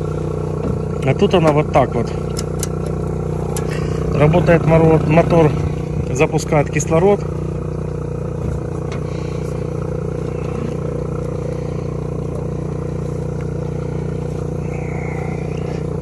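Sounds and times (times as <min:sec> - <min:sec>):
aeration motor hum: 0:00.0 - 0:16.0.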